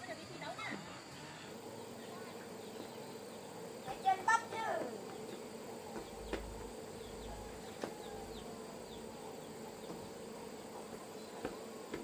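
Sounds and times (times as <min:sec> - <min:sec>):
insects humming: 0:00.0 - 0:12.0.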